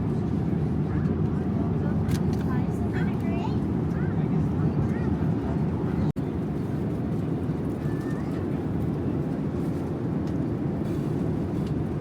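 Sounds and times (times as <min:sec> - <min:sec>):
airliner cabin low rumble: 0:00.0 - 0:12.0.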